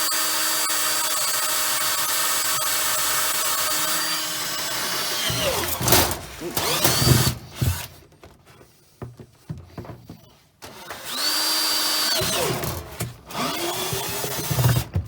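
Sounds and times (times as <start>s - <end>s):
power drill whining: 0.0s - 8.0s, 10.1s - 15.0s.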